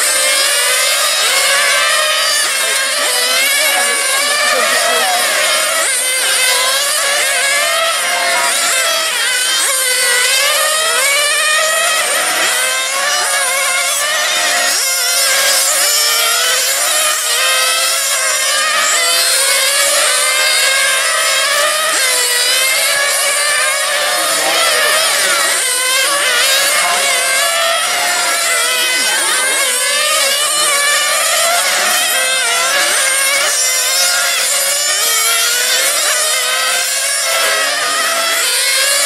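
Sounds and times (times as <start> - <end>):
radio-controlled car engines whining: 0.0 - 39.0.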